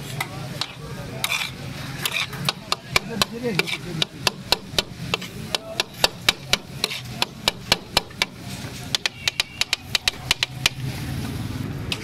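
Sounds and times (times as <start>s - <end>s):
metal spatulas striking griddle: 0.0s - 10.9s.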